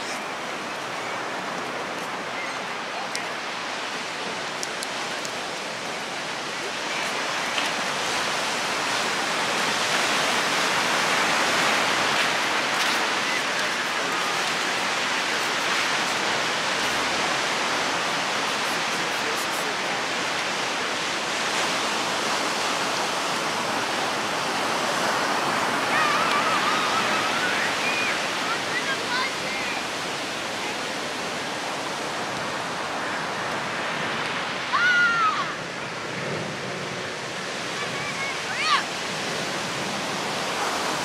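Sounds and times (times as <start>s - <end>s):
surf breaking on sand: 0.0s - 41.0s.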